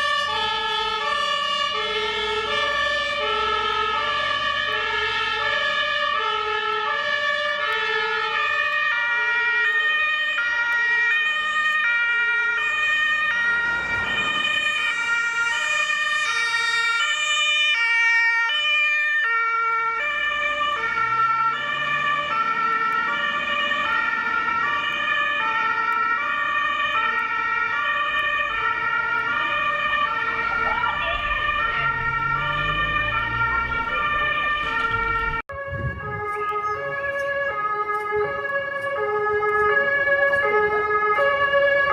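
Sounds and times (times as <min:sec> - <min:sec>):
two-tone fire engine sirens: 0:00.0 - 0:41.9.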